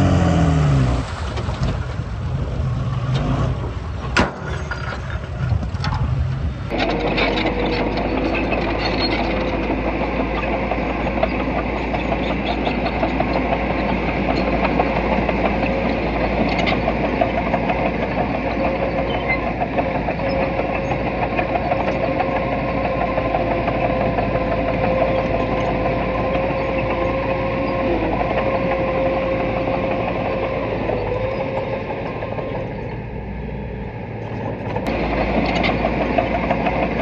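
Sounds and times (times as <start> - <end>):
diesel engine rattling: 0.0 - 37.0.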